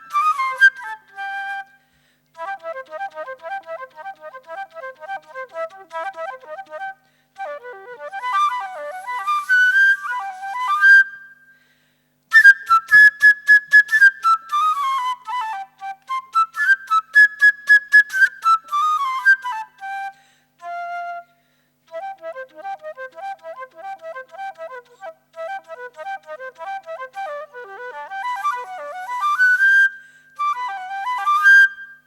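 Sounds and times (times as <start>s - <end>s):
solo flute: 0.0s - 32.0s.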